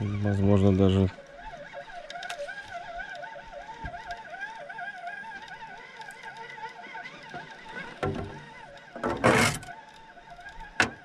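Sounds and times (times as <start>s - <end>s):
fishing reel whine: 0.0s - 11.0s.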